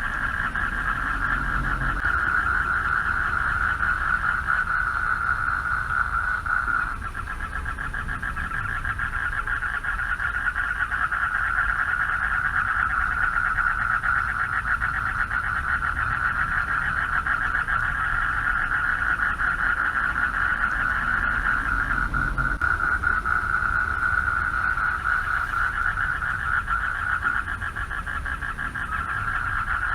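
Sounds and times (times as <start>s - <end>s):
low rumble: 0.0s - 9.7s, 15.4s - 29.9s
frogs trilling: 0.0s - 29.9s.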